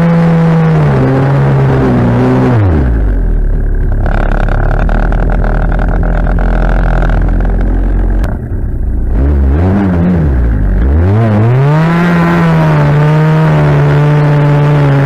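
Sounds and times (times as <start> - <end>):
small engine revving and idling: 0.0 - 15.0.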